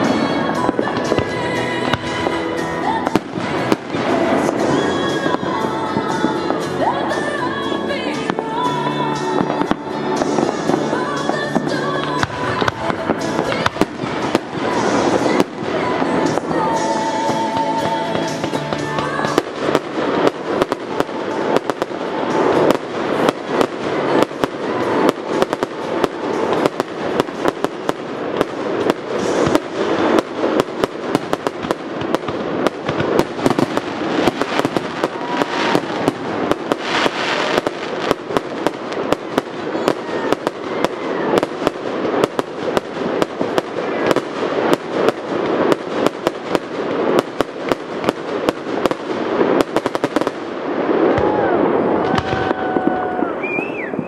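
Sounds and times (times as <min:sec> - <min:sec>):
firework shells bursting: 0:00.0 - 0:51.4.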